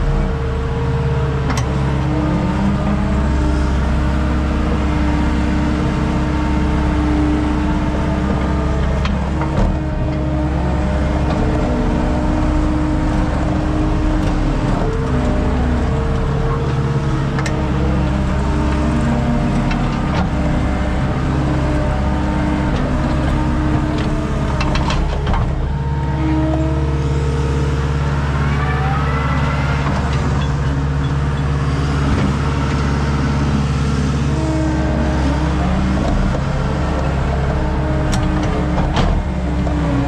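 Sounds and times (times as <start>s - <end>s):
skid steer engine running: 0.0s - 40.0s.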